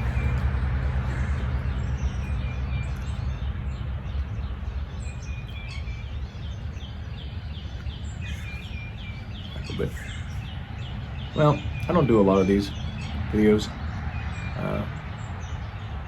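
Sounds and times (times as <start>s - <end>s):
songbirds chirping: 0.0s - 16.0s
steady low rumble: 0.0s - 16.0s.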